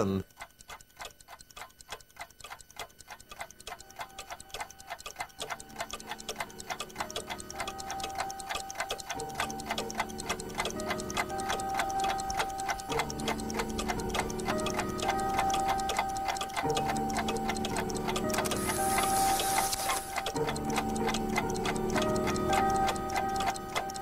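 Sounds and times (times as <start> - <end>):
clock ticking: 0.0 - 24.0
held music tones: 2.7 - 24.0.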